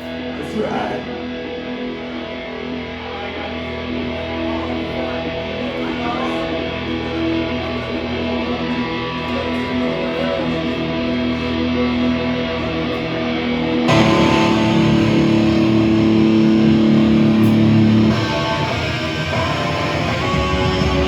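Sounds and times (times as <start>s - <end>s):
electric guitars ringing out: 0.0s - 21.0s.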